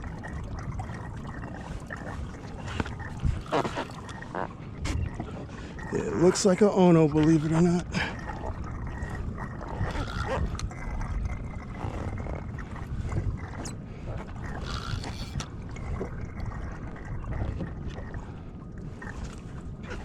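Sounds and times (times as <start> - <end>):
wind and water rumble: 0.0 - 20.0.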